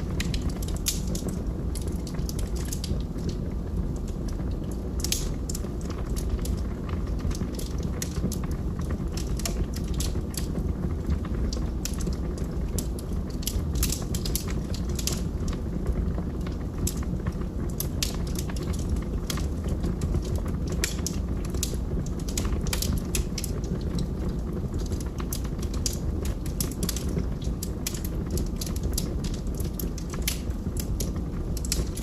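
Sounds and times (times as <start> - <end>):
logs crackling and popping: 0.0 - 32.0
low rumble of flames: 0.0 - 32.0.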